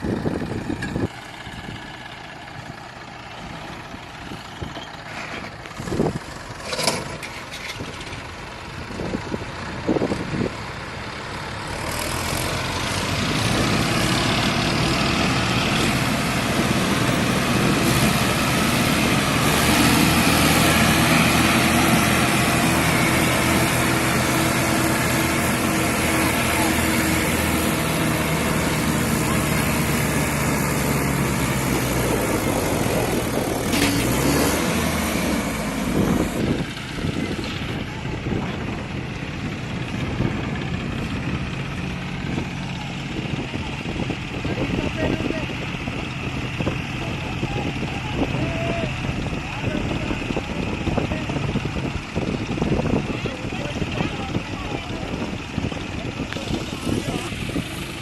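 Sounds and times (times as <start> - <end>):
diesel tractor engines running: 0.0 - 58.0.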